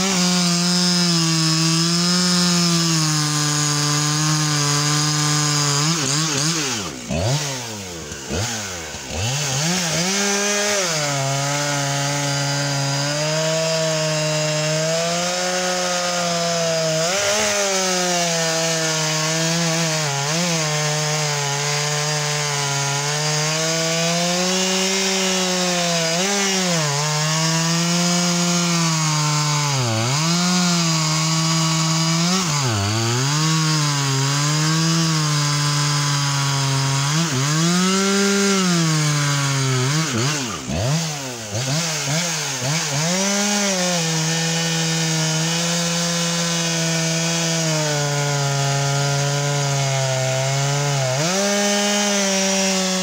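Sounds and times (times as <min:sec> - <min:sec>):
chainsaw cutting log: 0:00.0 - 0:53.0.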